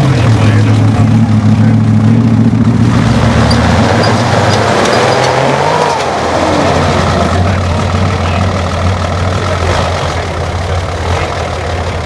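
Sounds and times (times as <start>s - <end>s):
off-road truck engine under load: 0.0s - 12.0s.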